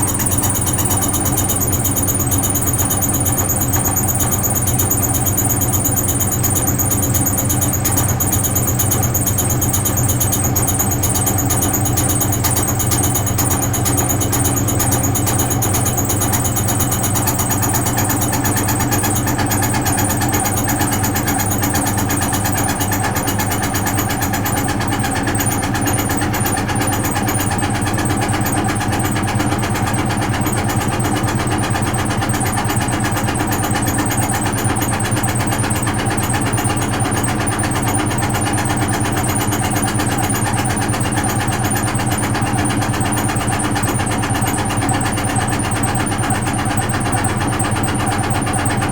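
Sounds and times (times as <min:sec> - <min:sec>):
washing machine motor humming: 0:00.0 - 0:48.9.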